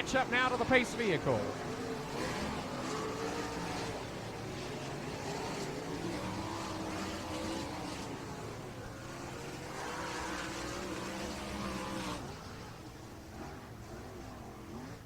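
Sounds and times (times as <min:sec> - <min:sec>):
racing car engines circling: 0:00.0 - 0:15.0.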